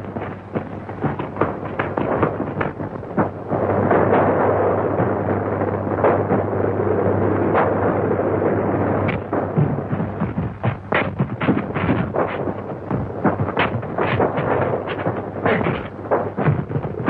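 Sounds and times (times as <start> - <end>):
sharp cracks and thumps: 0.0 - 6.7, 7.4 - 8.1, 9.0 - 17.0
dense steady roar of noise: 0.0 - 17.0.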